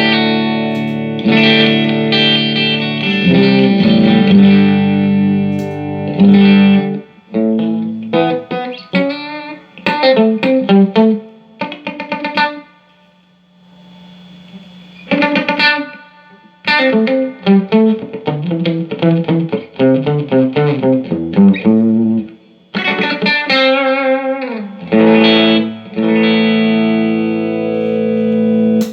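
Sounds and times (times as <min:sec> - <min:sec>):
electric guitar playing: 0:00.0 - 0:12.8, 0:14.6 - 0:28.9.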